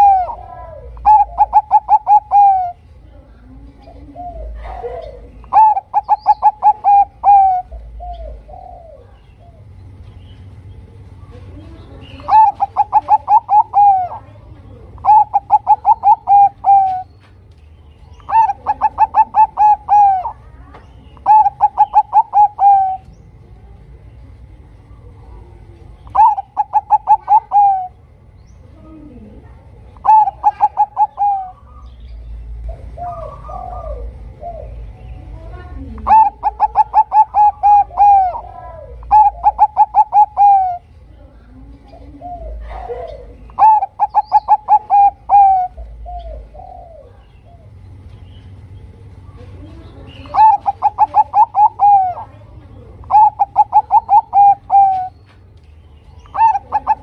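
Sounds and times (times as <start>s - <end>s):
dove cooing: 0.0s - 10.0s, 10.6s - 17.3s, 18.1s - 55.4s, 56.2s - 57.0s.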